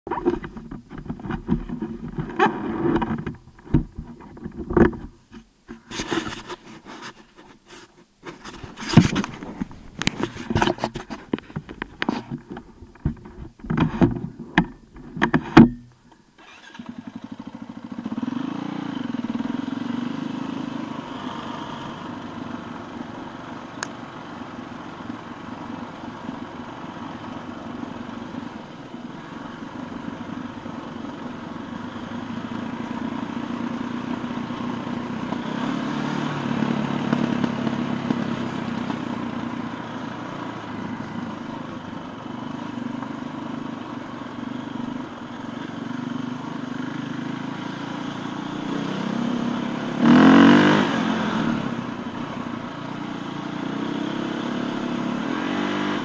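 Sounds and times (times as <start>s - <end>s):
motorcycle engine running: 0.1s - 6.0s, 9.1s - 56.0s.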